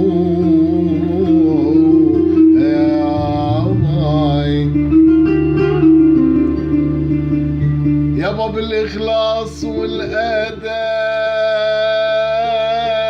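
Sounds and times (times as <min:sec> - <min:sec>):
person singing ornamented vocal line: 0:00.0 - 0:05.8, 0:08.2 - 0:13.0
instrumental accompaniment with bass: 0:00.0 - 0:13.0.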